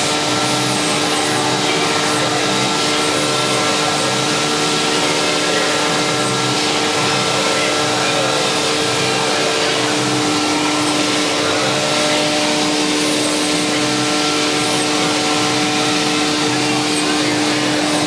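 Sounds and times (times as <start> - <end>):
machining center whining: 0.0 - 18.0.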